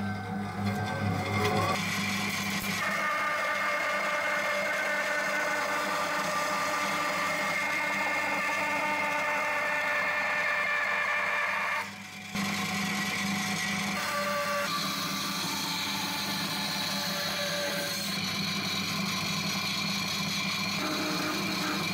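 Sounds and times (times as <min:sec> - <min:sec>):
band saw cutting wood: 0:00.6 - 0:21.9.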